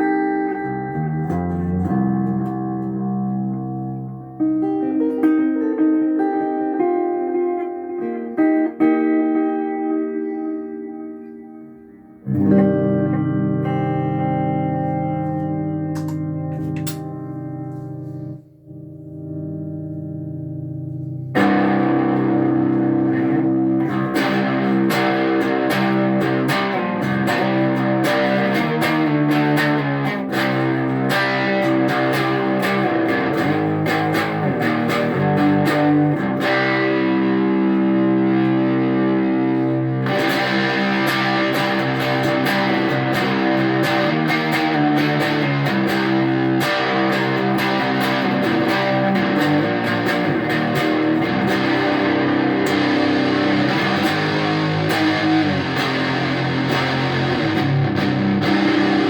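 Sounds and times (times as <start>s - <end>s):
overdriven electric guitar: 0.0s - 59.0s.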